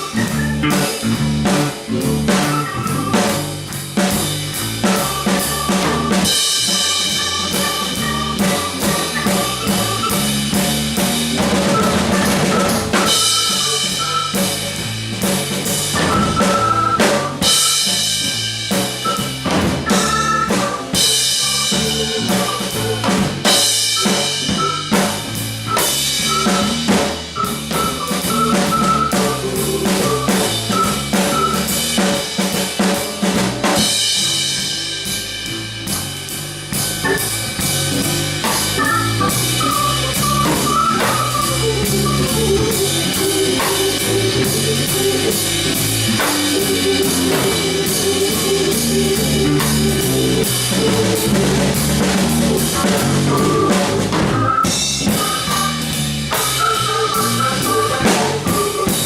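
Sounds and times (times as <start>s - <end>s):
bass guitar line: 0.0s - 59.0s
drum kit playing: 0.0s - 59.0s
keyboard melody: 0.0s - 59.0s.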